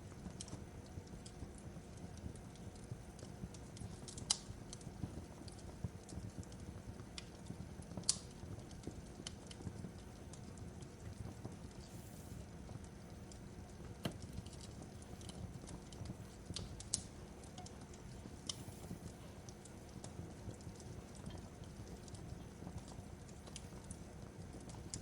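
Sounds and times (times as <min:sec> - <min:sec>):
fireplace crackling: 0:00.0 - 0:25.0.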